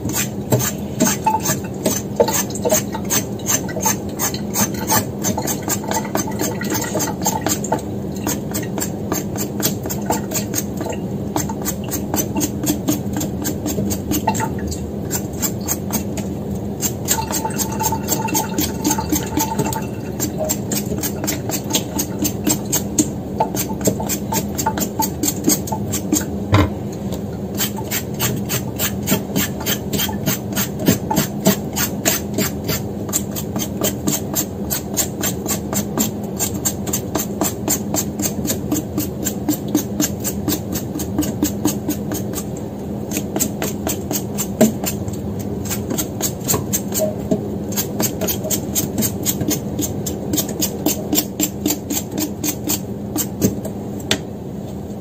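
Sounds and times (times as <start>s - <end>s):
vegetable peeler scraping skin: 0.0s - 10.8s, 16.8s - 26.3s, 27.5s - 53.6s
steady low hum: 0.0s - 55.0s.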